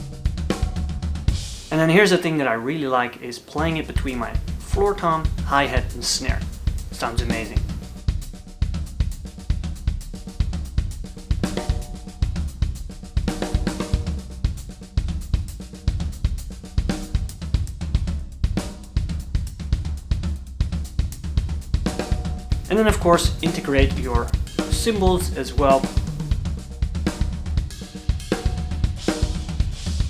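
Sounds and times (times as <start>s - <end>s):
drum kit fill: 0.0s - 30.0s.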